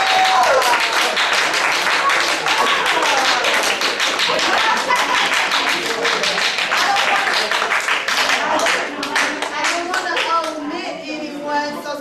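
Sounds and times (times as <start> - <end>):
people applauding: 0.0 - 10.6.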